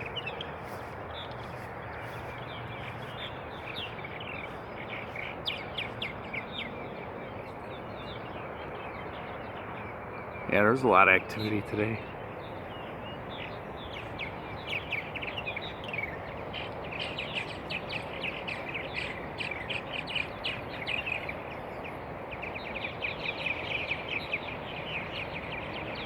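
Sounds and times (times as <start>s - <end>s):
outdoor background hiss: 0.0s - 26.0s
small birds chirping: 0.0s - 26.0s.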